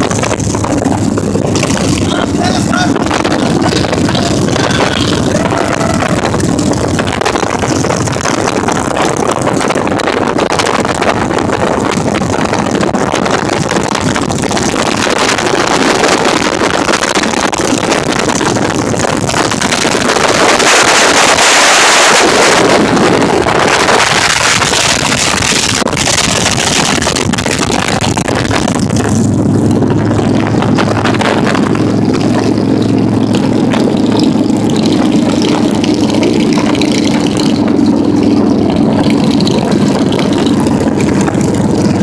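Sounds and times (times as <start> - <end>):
motorcycle engines running: 0.0 - 42.0
wind buffeting microphone: 0.0 - 42.0.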